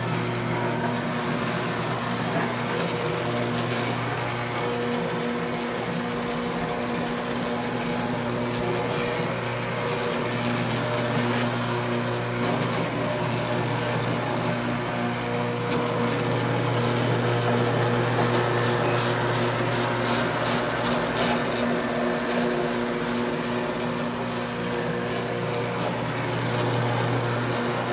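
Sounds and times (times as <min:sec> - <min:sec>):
floor machine motor hum: 0:00.0 - 0:27.9
pad scrubbing wet floor: 0:00.0 - 0:27.9.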